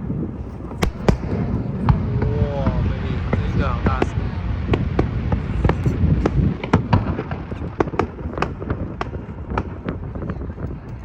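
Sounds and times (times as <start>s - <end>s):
fireworks cracking and banging: 0.6s - 11.0s
low rumble: 0.8s - 11.0s.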